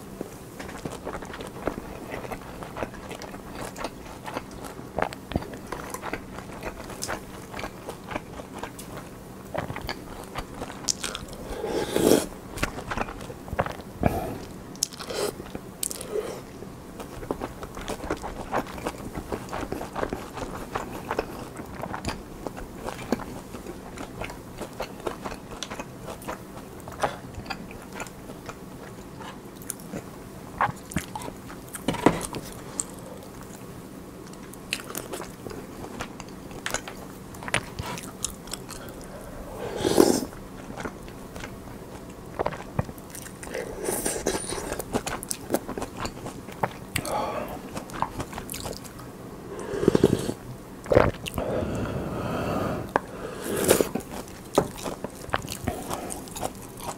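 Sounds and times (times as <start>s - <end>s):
person chewing and wet mouth sounds: 0.2s - 56.9s.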